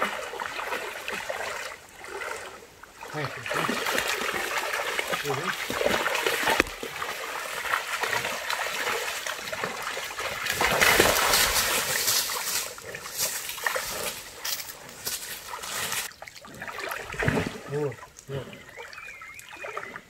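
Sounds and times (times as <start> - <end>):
creek water splashing and trickling: 0.0 - 20.0.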